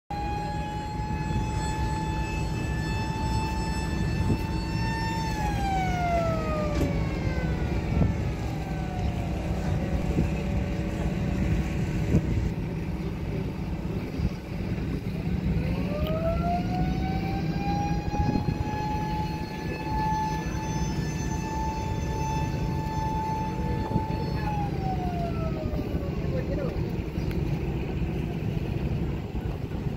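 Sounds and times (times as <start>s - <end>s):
low engine rumble: 0.1s - 29.9s
machine whine: 0.1s - 29.9s.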